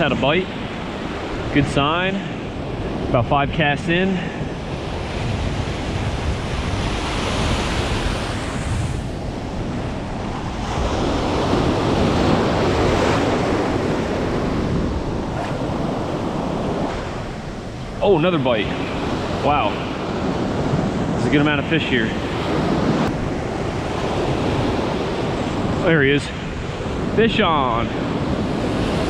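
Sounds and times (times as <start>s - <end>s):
ocean surf breaking on beach: 0.0s - 29.0s
wind buffeting microphone: 0.0s - 29.0s.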